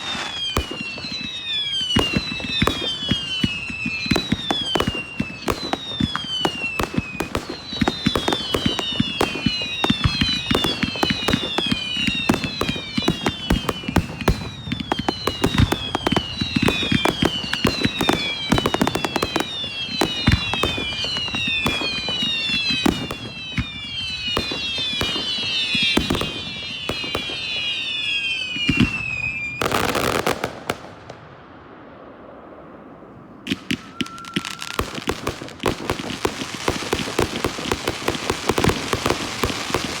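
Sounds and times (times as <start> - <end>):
fireworks whistles falling in pitch: 0.0 - 30.8, 33.4 - 40.0
fireworks bangs and crackling: 0.0 - 40.0.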